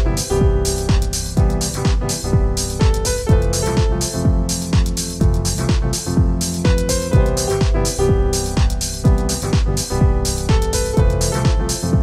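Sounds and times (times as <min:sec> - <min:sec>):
deep kick drum beat: 0:00.0 - 0:12.0
hi-hat or clap hits: 0:00.0 - 0:12.0
sustained keyboard chords: 0:00.0 - 0:12.0.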